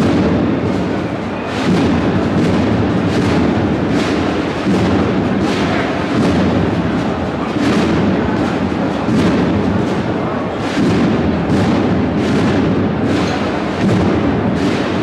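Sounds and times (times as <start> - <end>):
cornet and drum band marching: 0.0 - 15.0
heavy drum beats: 0.0 - 15.0.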